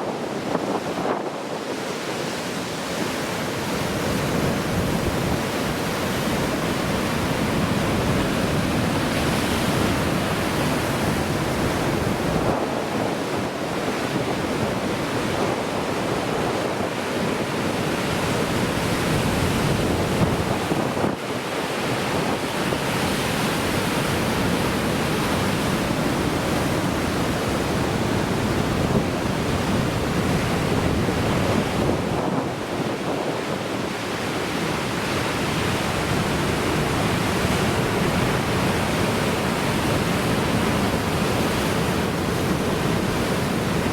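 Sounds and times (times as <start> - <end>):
heavy surf waves breaking: 0.0 - 43.9
wind buffeting microphone: 0.0 - 43.9.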